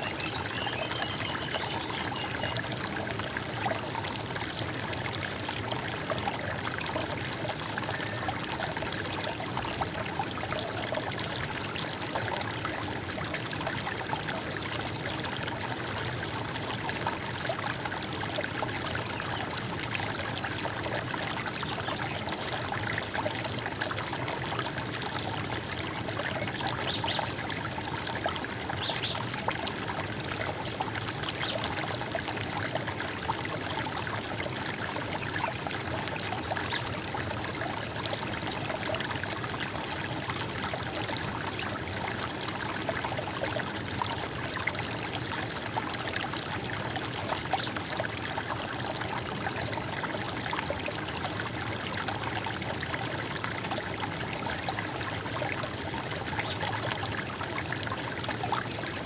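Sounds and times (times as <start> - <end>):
stream flowing and trickling: 0.0 - 59.0.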